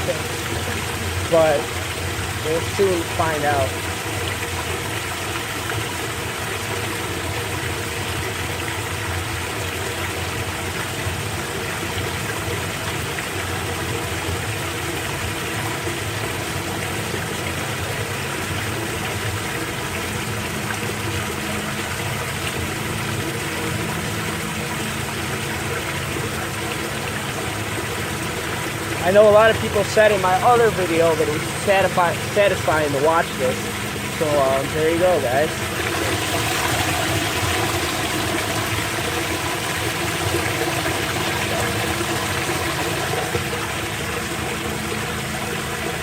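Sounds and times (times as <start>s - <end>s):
floodwater rushing down storm drain: 0.0s - 46.0s.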